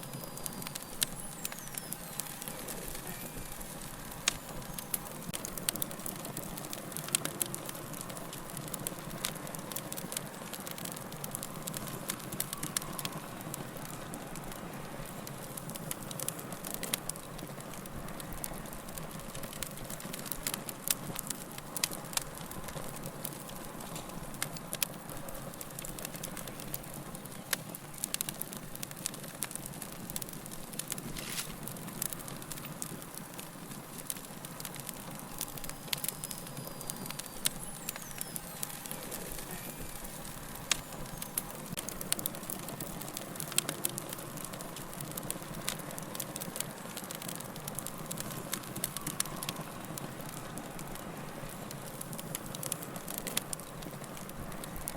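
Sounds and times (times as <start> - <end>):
fire hissing: 0.0 - 54.9
wood fire crackling and popping: 0.0 - 54.9.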